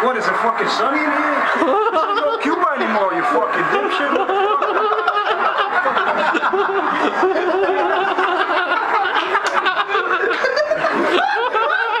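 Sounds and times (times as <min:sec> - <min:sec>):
indistinct talk: 0:00.0 - 0:11.5
people laughing hard: 0:00.0 - 0:12.0.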